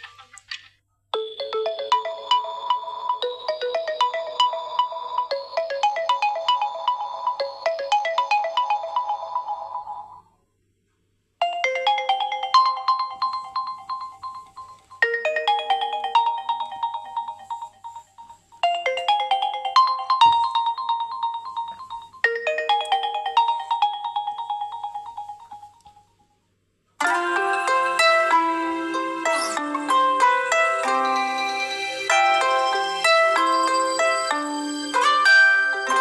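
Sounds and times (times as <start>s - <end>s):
bright ringtone melody: 1.2s - 10.4s, 11.4s - 36.0s.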